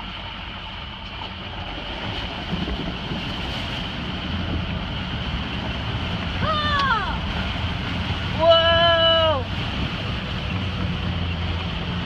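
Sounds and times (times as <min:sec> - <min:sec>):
truck engine running under load: 0:00.0 - 0:12.0
water rushing against vehicle: 0:00.0 - 0:12.0.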